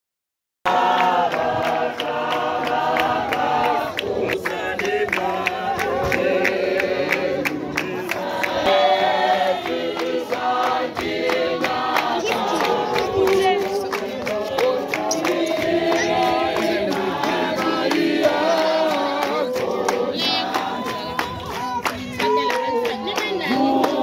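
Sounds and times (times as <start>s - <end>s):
group singing a hymn: 0.7s - 24.0s.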